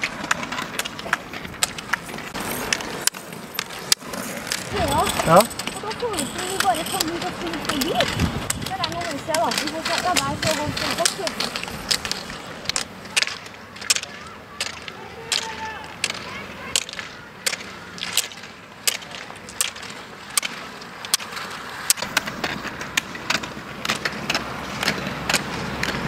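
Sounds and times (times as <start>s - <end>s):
roller ski wheels rolling hum: 0.0s - 26.0s
ski poles clicking on asphalt: 0.0s - 26.0s.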